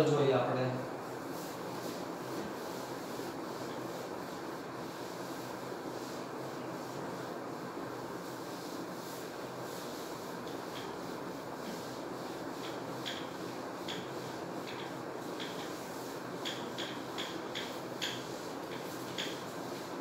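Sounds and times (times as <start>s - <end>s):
steady background hiss: 0.0s - 20.0s
duster rubbing on whiteboard: 0.8s - 20.0s.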